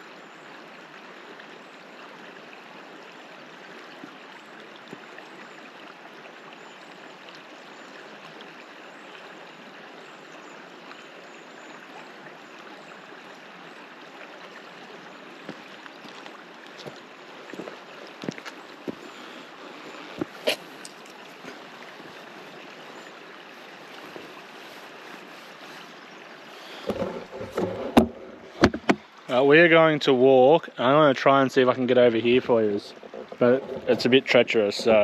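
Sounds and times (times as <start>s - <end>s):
river water rushing: 0.0s - 30.3s, 30.9s - 35.0s.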